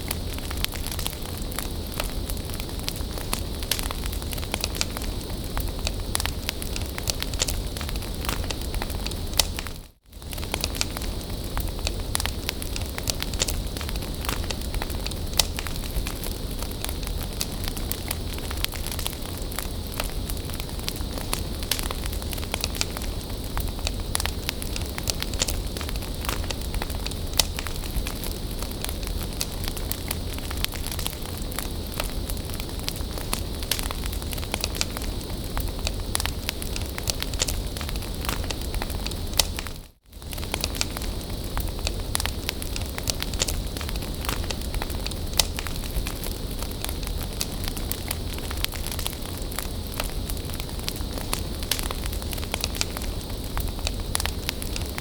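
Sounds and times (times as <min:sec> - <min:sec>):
bonfire crackling and popping: 0:00.0 - 0:55.0.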